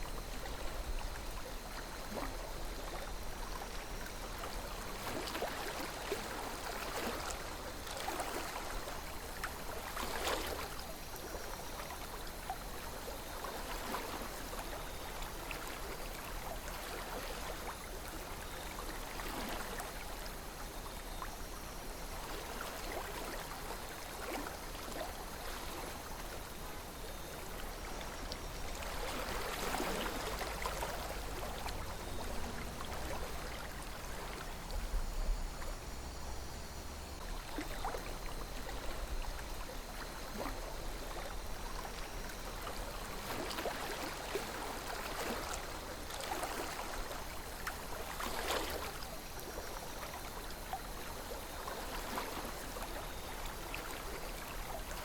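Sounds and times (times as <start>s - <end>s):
river water flowing and trickling: 0.0s - 55.0s.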